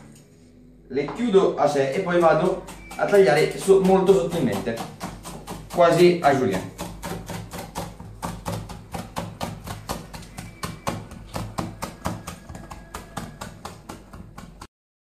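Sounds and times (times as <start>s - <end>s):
knife slicing vegetables: 1.9s - 14.6s
knife tapping cutting board: 1.9s - 14.7s.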